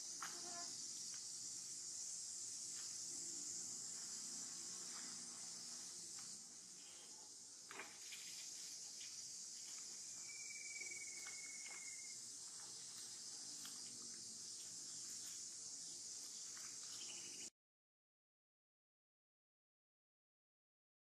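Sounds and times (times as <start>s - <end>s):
insects chorus: 0.0s - 17.5s.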